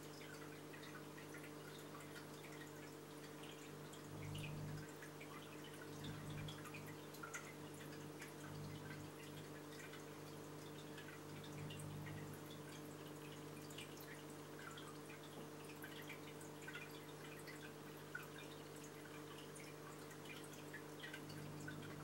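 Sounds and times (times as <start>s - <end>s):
water trickling and dripping: 0.0s - 22.0s
steady low hum: 3.2s - 17.6s, 18.4s - 22.0s.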